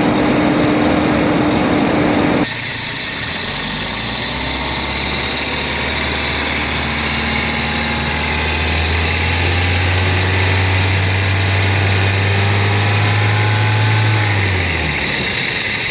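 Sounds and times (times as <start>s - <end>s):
car engine running: 0.0s - 15.9s.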